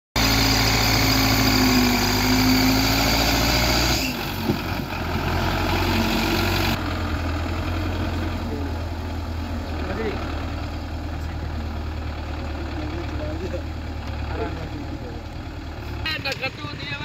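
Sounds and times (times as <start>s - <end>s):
tractor diesel engine running: 0.2s - 17.0s.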